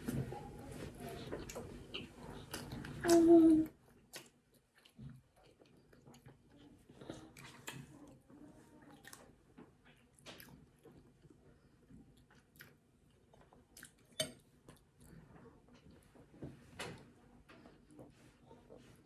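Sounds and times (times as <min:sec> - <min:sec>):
faint chewing: 0:00.0 - 0:19.0.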